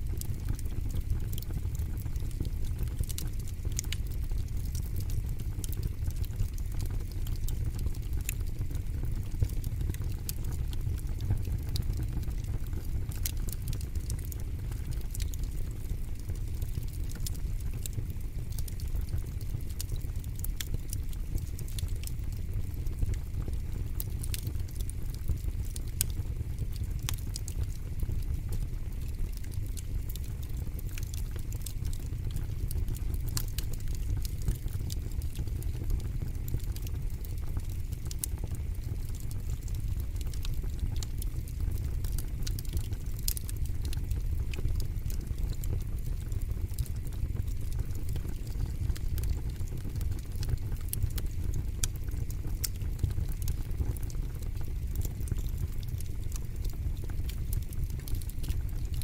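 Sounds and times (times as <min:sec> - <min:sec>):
low steady rumble: 0:00.0 - 0:58.8
fire crackling in a fire pit: 0:00.0 - 0:59.0.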